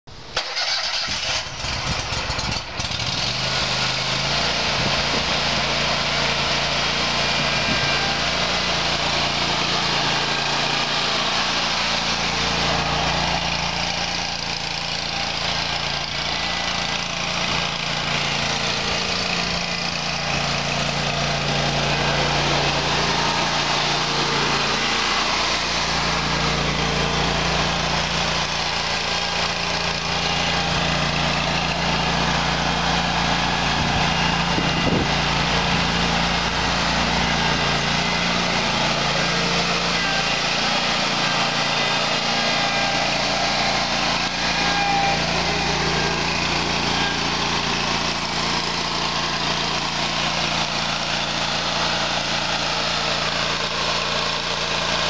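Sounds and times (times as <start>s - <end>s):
mower engine running: 0.1s - 55.0s.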